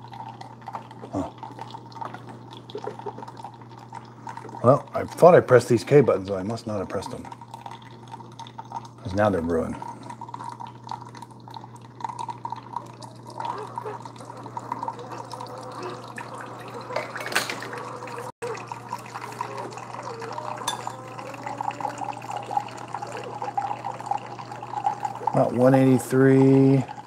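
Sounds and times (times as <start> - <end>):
coffee trickling into mugs: 0.0 - 27.0.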